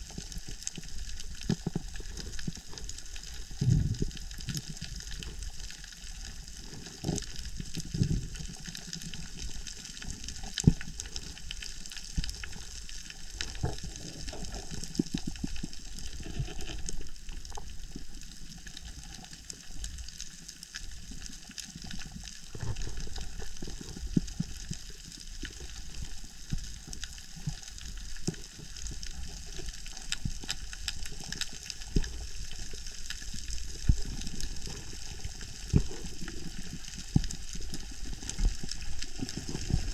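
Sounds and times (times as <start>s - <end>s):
crackle of snapping shrimp: 0.0s - 39.9s.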